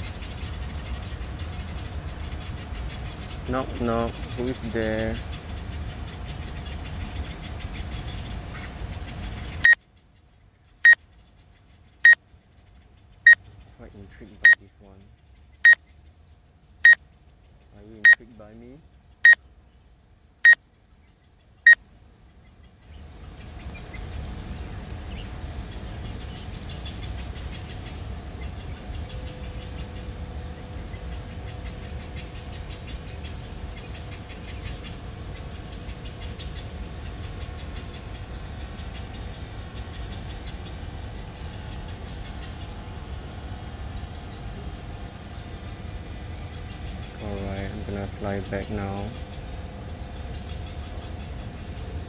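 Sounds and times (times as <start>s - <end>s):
low rumble with faint hum: 0.0s - 52.0s.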